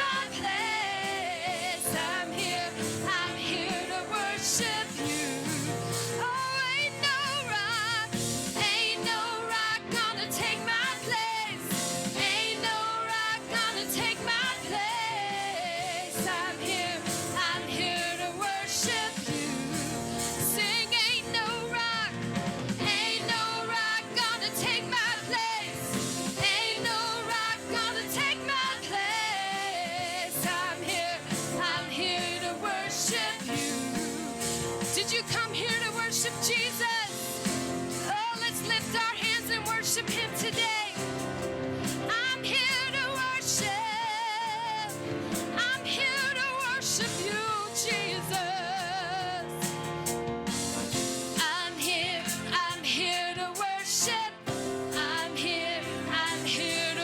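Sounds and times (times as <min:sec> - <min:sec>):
person singing gospel: 0:00.0 - 0:50.1, 0:50.9 - 0:57.0
instrumental accompaniment: 0:00.0 - 0:57.0.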